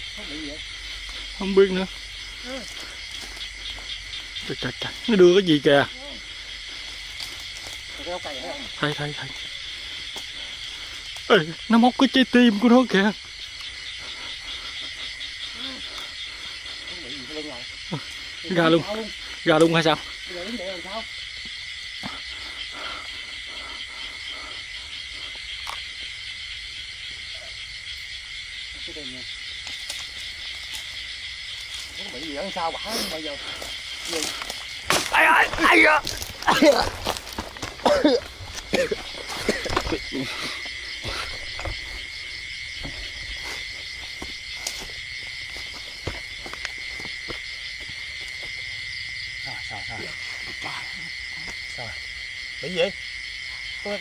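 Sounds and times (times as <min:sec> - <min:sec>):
frogs croaking: 0:00.0 - 0:54.0
high insect drone: 0:00.0 - 0:54.0.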